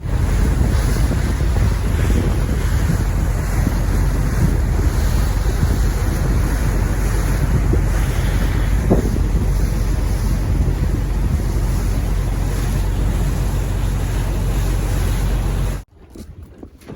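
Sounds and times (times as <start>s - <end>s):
sea wash: 0.0s - 16.9s
wind buffeting microphone: 0.0s - 16.9s.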